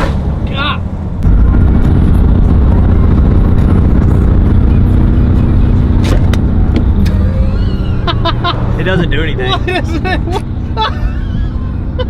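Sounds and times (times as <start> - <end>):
car engine and exhaust droning: 0.0 - 12.0.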